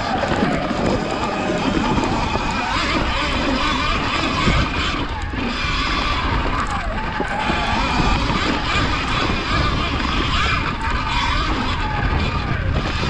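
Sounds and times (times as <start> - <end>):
bike on bumpy ground: 0.0 - 13.0
wind rush on helmet microphone: 0.0 - 13.0.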